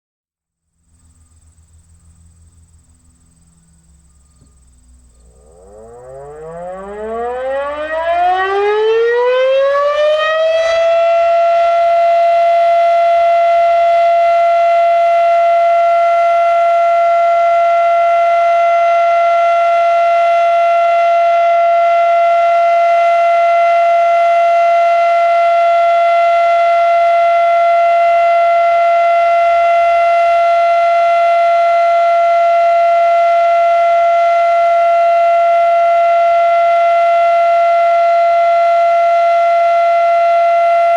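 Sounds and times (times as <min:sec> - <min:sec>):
warning siren winding up: 0:05.3 - 0:40.9.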